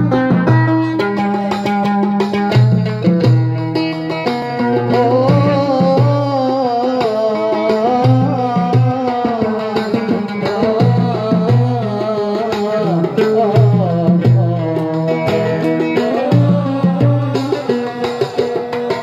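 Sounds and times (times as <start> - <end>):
steady drum rhythm: 0.0 - 19.0.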